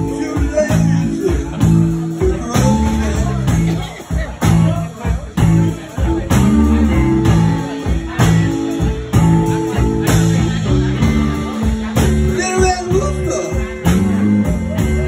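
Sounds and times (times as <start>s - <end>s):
electric guitar playing blues: 0.0s - 15.0s
repeating bass line: 0.0s - 15.0s
steady drum beat: 0.0s - 15.0s.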